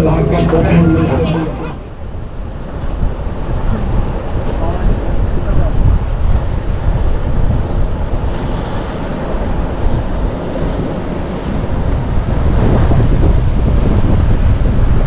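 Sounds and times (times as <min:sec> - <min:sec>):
open sea rushing: 0:00.0 - 0:15.0
wind buffeting microphone: 0:00.0 - 0:15.0.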